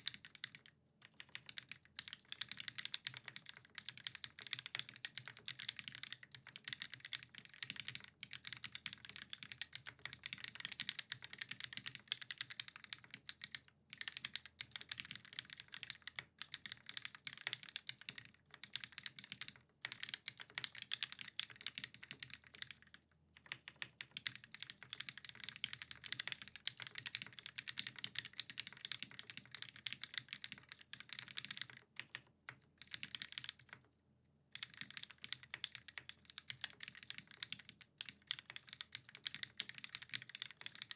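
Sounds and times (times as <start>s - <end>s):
mechanical keyboard typing: 0.0s - 33.9s, 34.6s - 40.9s.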